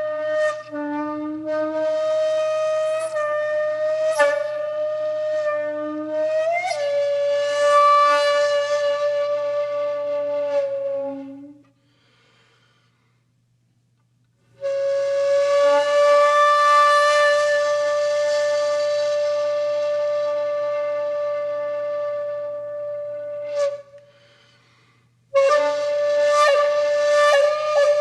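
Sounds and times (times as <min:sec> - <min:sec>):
conch shell blown: 0:00.0 - 0:12.2, 0:14.6 - 0:28.0.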